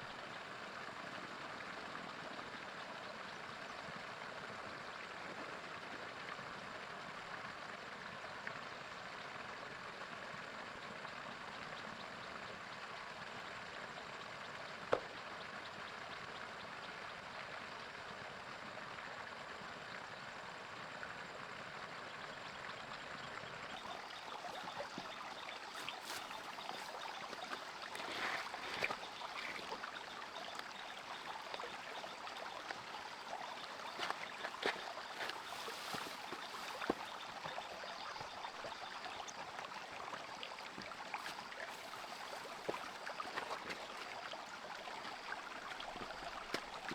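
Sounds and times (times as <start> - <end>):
water running steadily: 0.0 - 46.9.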